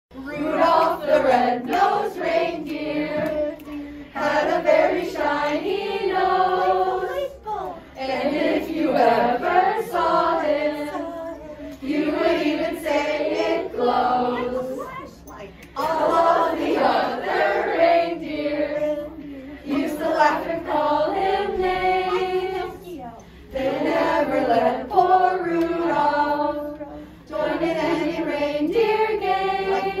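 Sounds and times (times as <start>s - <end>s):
children's choir singing: 0.2s - 15.0s, 15.8s - 22.8s, 23.5s - 30.0s.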